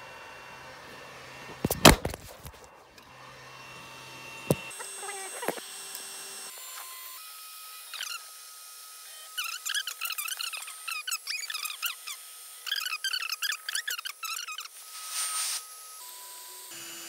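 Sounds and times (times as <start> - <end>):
stepper motors whining: 0.9 - 17.0.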